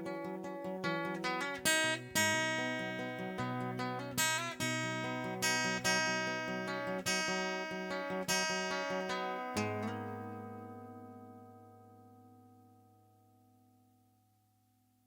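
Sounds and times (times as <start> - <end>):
acoustic guitar strumming chords: 0.0 - 13.8.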